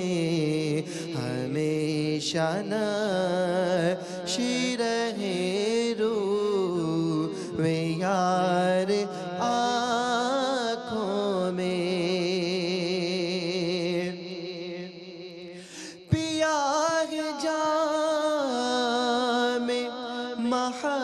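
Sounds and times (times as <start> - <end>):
man singing without words: 0.0 - 21.0.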